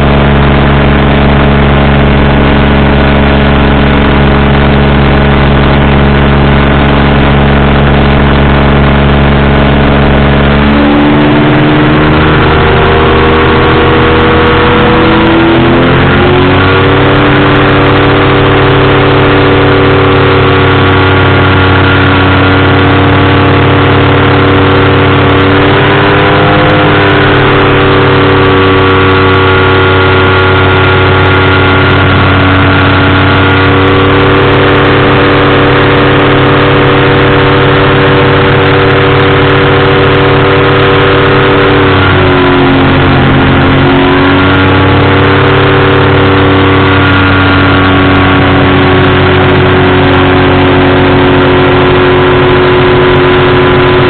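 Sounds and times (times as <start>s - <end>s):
powered parachute engine and propeller: 0.0s - 54.0s.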